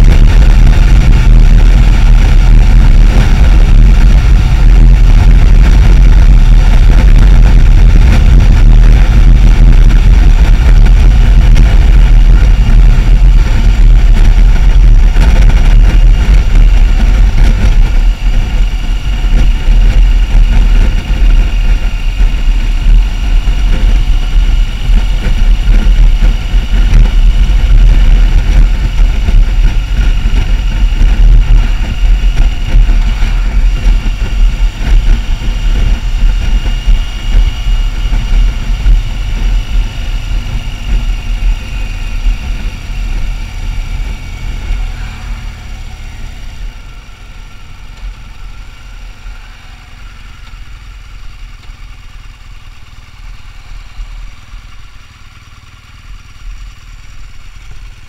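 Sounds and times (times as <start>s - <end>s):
wind rumble on microphone: 0.0s - 54.2s
faint steady whine: 0.0s - 58.0s
motorcycle riding: 0.0s - 58.0s.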